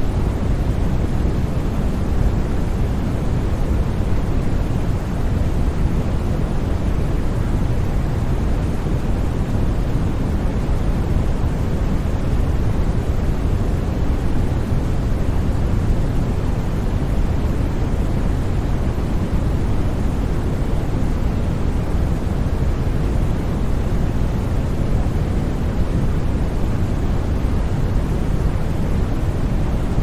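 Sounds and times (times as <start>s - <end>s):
white noise hiss: 0.0s - 30.0s.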